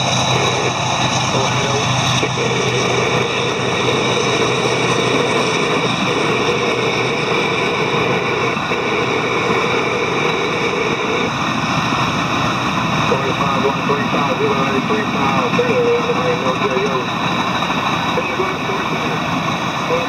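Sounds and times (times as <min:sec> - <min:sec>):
steady hum: 0:00.0 - 0:20.0
train wheels on rails: 0:00.0 - 0:20.0.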